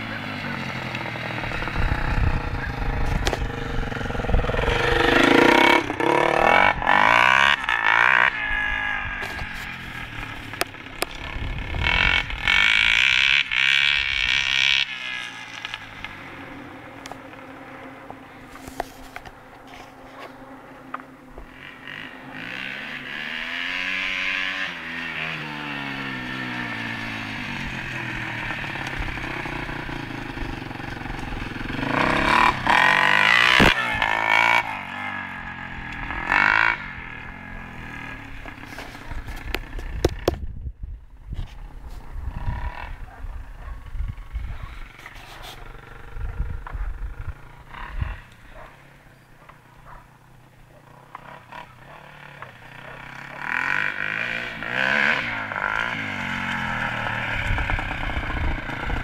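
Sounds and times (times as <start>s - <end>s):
dirt bike engine revving: 0.0s - 40.5s, 41.5s - 59.0s.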